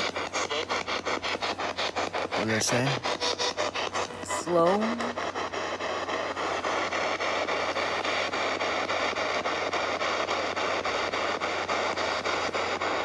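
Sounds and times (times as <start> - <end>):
low steady hum: 0.0 - 13.0
radio static: 0.0 - 13.0.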